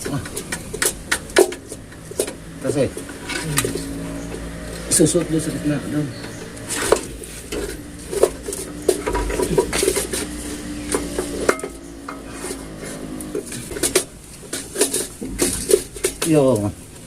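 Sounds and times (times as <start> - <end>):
metal tools clinking: 0.0 - 16.7.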